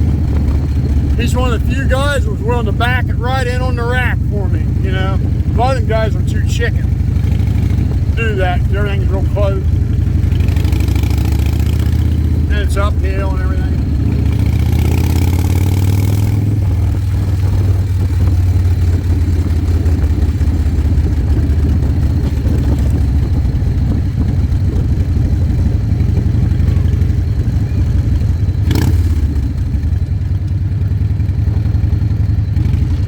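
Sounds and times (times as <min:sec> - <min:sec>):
motorcycle engine rumbling: 0:00.0 - 0:33.0.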